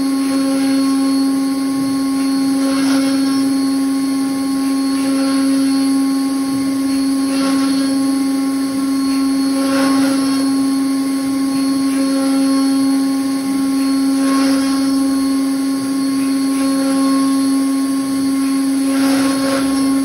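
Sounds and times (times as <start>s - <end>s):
bit cutting plastic sheet: 0.0s - 20.0s
router spindle humming: 0.0s - 20.0s.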